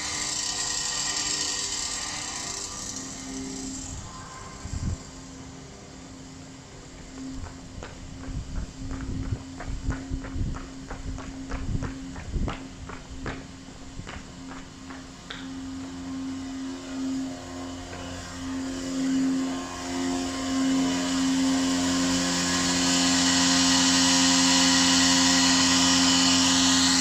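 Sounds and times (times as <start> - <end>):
harsh buzz: 0.0 - 27.0
fire alarm low drone: 2.8 - 27.0.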